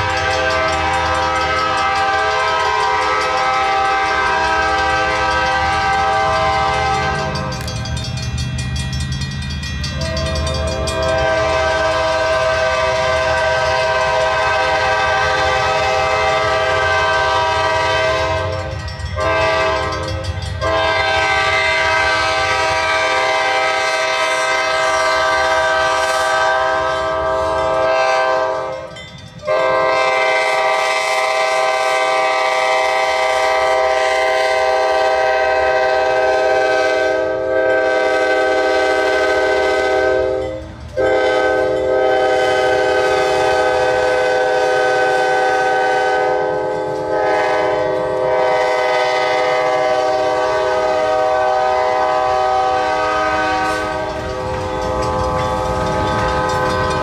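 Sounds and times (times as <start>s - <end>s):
locomotive air horn blasts: 0.0s - 7.7s, 10.0s - 57.0s
freight train rumbling: 0.0s - 57.0s.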